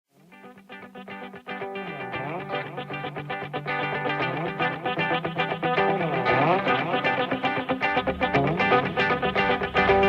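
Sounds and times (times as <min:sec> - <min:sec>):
plucked guitar music: 0:00.2 - 0:10.0.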